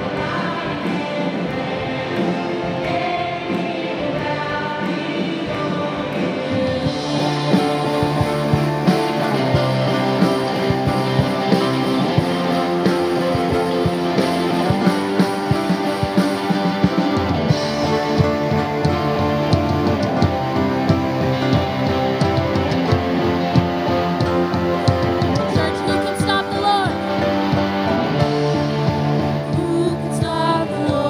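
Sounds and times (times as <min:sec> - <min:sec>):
band music with guitar: 0:00.0 - 0:31.0
steady drum beat: 0:00.0 - 0:31.0.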